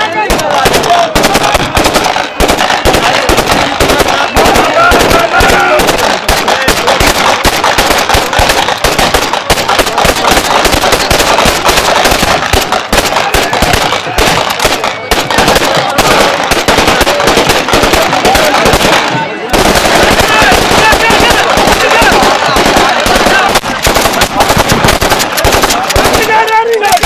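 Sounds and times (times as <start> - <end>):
rapid overlapping gunshots: 0.0 - 27.0.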